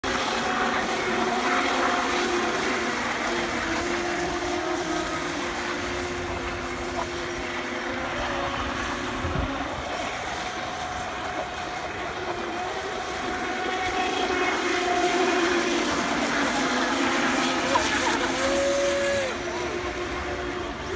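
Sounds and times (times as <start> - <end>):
electric boat motors whining: 0.0 - 20.9.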